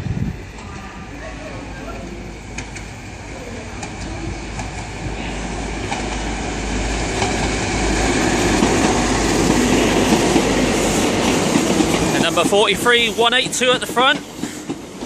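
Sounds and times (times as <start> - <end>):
diesel locomotive engine: 0.0 - 15.0
train wheels on rails: 0.0 - 15.0.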